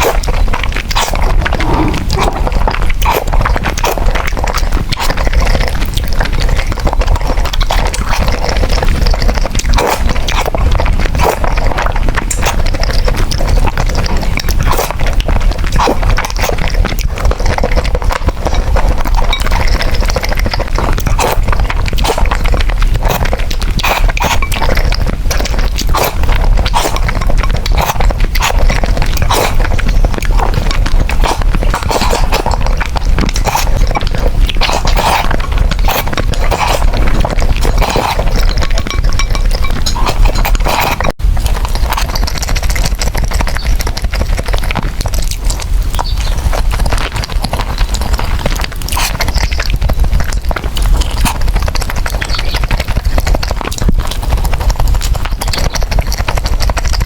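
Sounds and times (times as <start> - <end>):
slurping and chewing noodles: 0.0 - 57.0.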